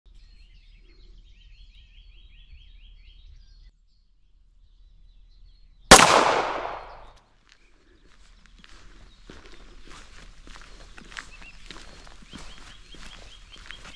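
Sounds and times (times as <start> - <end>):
birdsong: 0.1 - 13.9.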